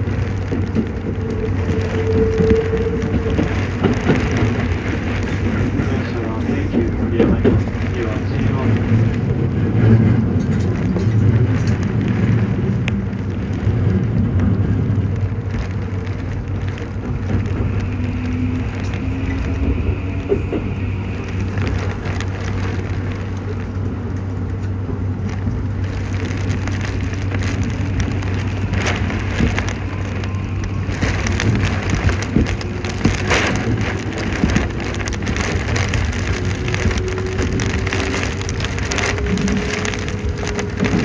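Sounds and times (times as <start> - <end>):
rain ticking against train: 0.0 - 41.0
train rumbling: 0.0 - 41.0.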